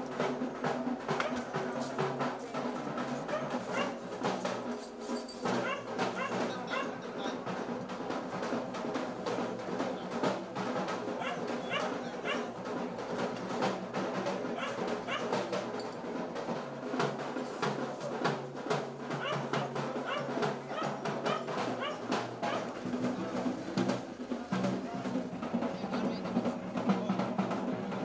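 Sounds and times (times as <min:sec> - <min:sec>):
drums beaten rapidly: 0:00.0 - 0:28.0.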